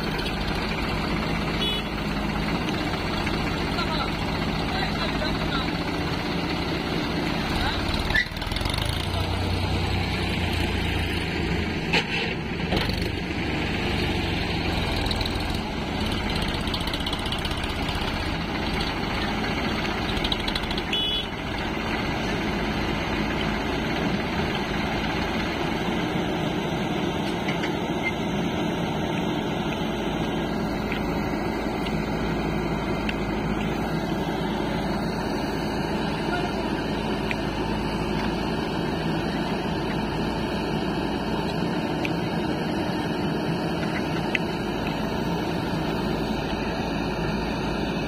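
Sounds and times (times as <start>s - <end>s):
backhoe loader diesel engine: 0.0s - 48.0s
tractor diesel engine: 0.0s - 48.0s.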